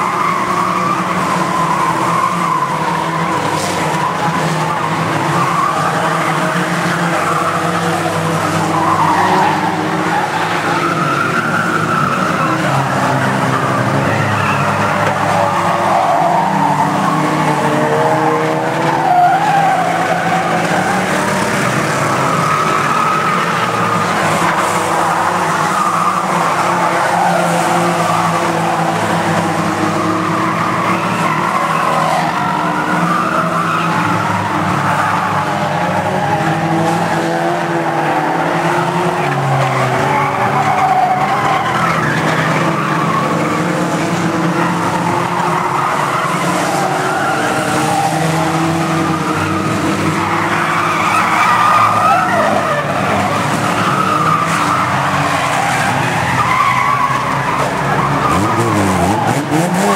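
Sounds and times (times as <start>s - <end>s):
stock car engines revving: 0.0s - 59.9s.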